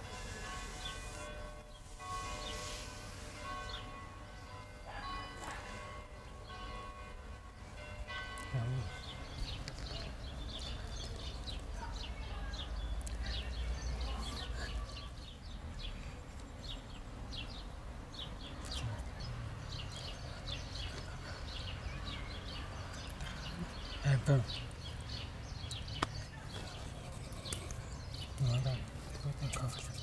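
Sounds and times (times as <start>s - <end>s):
small birds chirping: 0.4s - 4.8s, 6.2s - 30.0s.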